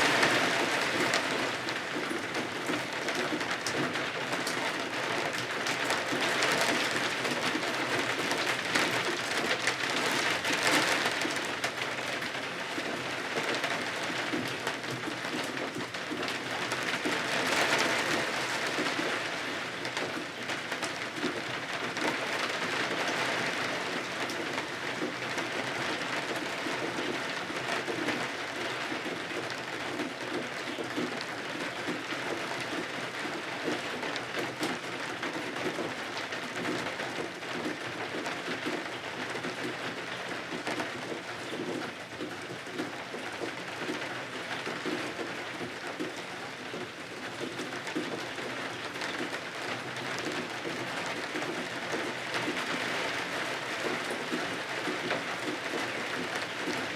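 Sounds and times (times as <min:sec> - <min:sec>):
rain falling against windows: 0:00.0 - 0:56.9.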